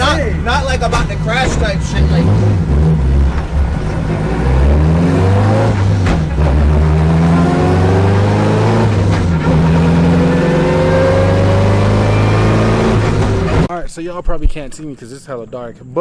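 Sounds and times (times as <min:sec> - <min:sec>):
car engine accelerating: 0:00.0 - 0:13.7.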